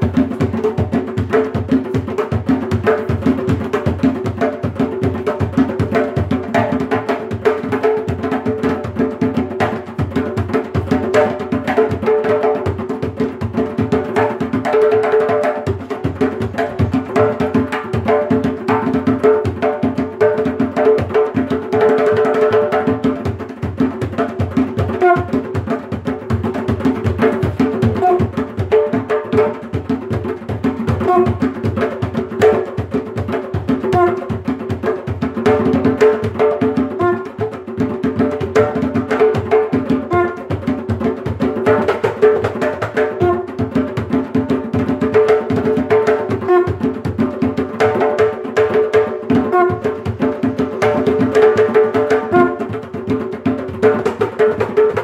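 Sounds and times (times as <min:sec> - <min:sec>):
hand drums playing: 0:00.0 - 0:55.0.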